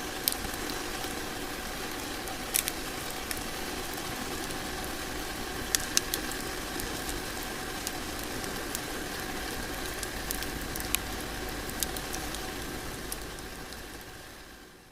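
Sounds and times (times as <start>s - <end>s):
fireplace fire crackling: 0.0s - 14.9s.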